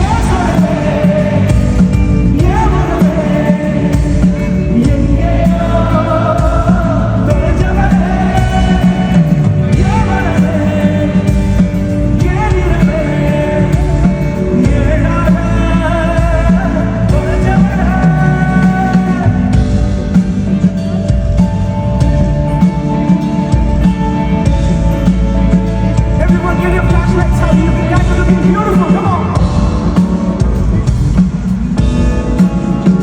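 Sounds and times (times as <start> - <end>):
band playing loudly: 0.0 - 33.0.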